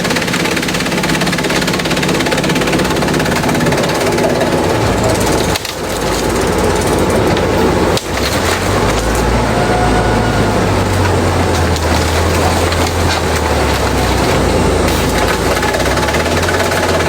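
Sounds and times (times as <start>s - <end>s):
machine low drone: 0.0s - 17.0s
shredder crackling and splintering: 0.0s - 17.0s.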